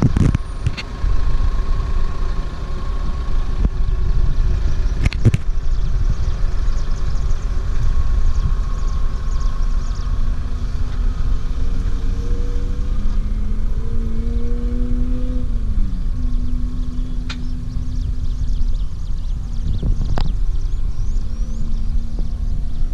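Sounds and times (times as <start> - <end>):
heavy low rumble: 0.0 - 22.9
off-road vehicle engine running: 0.0 - 22.9.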